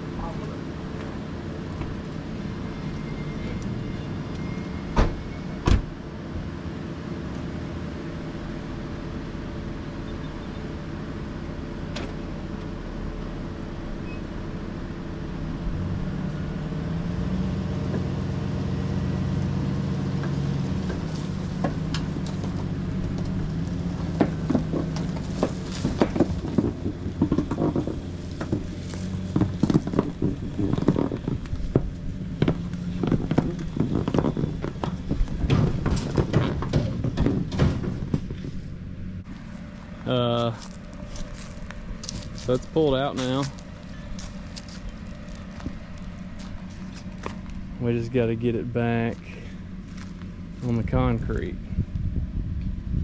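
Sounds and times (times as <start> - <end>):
pickup truck engine running: 8.4 - 53.0.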